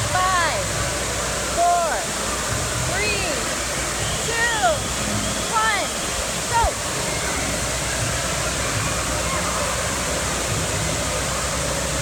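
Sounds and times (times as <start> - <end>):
faint crowd voices: 0.0 - 12.0
fountain pouring water: 0.0 - 12.0
wave pool surf: 0.0 - 12.0.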